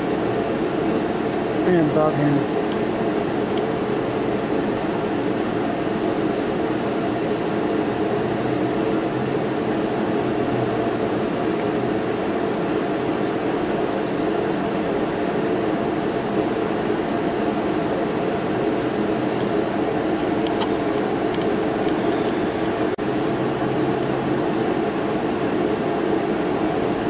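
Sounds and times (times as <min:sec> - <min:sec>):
steady drone with hum: 0:00.0 - 0:27.0.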